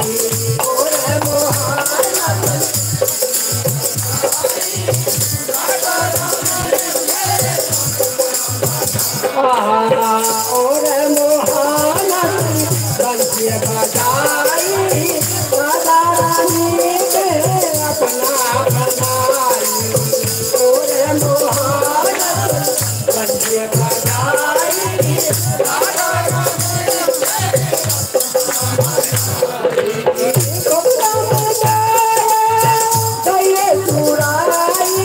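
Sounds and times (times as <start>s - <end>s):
harmonium: 0.0s - 35.0s
jingling rattling percussion: 0.0s - 35.0s
person singing: 0.0s - 35.0s.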